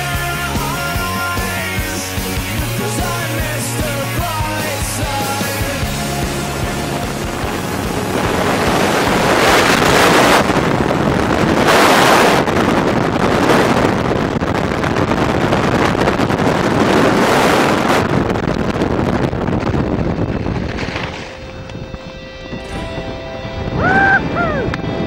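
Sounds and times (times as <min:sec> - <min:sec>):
wind roaring over microphone: 0:00.0 - 0:25.0.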